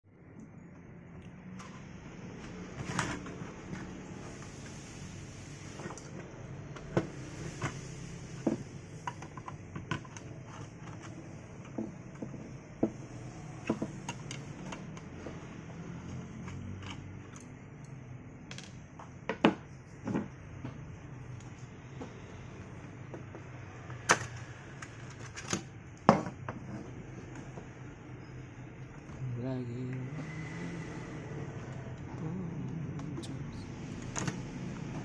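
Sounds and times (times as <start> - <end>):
steady low hum: 0.1 - 35.0.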